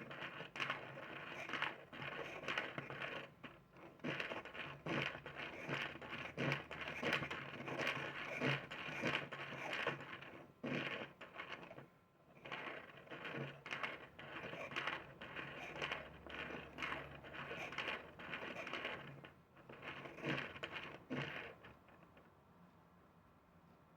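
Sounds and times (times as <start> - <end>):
plastic cam follower scraping: 0.0 - 11.8, 12.4 - 21.8.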